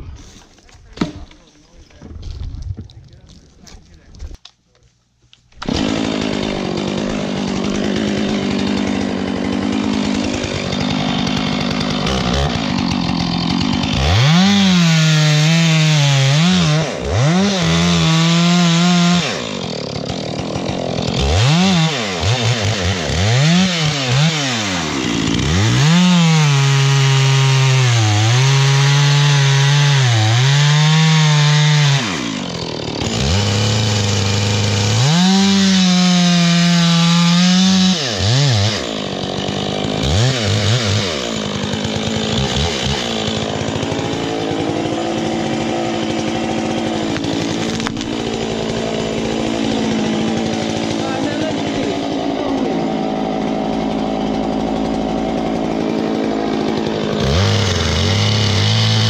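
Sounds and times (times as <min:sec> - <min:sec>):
chainsaw cutting log: 0:00.3 - 0:01.5, 0:05.6 - 0:59.0.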